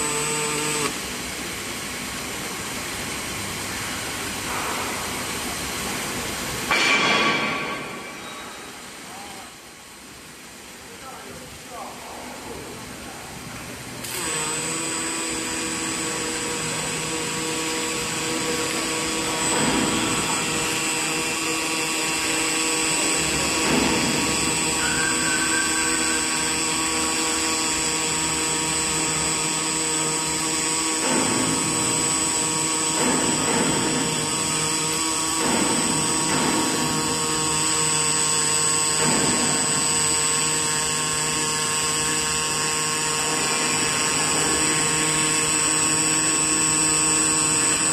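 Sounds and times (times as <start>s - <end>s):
arc welding buzz with high whine: 0.0s - 12.0s, 14.0s - 47.9s.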